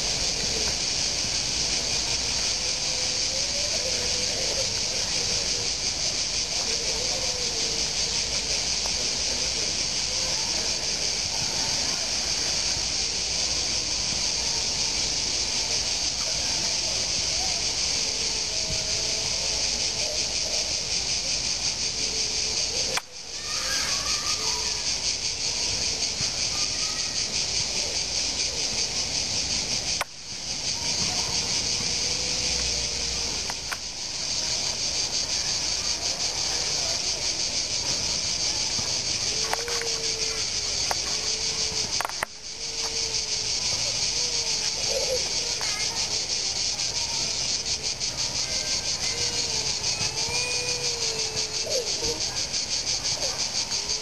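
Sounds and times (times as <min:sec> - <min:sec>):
crickets shrilling: 0:00.0 - 0:54.0.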